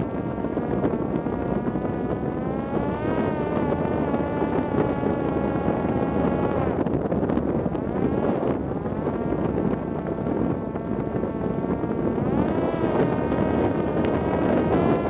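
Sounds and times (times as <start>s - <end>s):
drone propeller buzzing: 0.0s - 15.0s
wind rumble: 0.0s - 15.0s.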